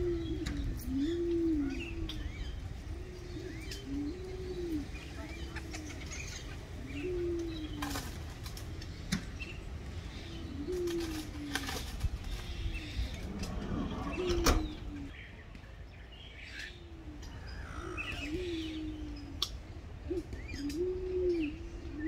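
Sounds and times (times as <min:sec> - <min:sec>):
doves cooing: 0:00.0 - 0:15.2, 0:16.6 - 0:22.0
small birds chirping: 0:00.0 - 0:22.0.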